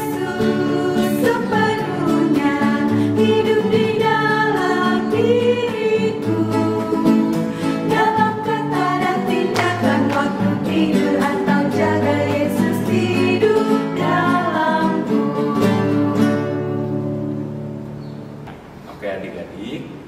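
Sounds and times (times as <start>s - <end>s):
women singing in unison: 0.0s - 17.3s
instrumental accompaniment: 0.0s - 18.9s.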